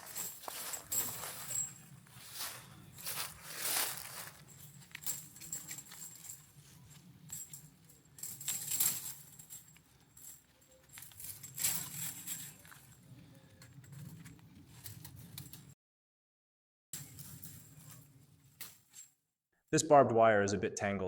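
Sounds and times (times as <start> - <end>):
chain-link fence rattling: 0.0 - 15.7, 17.0 - 19.0.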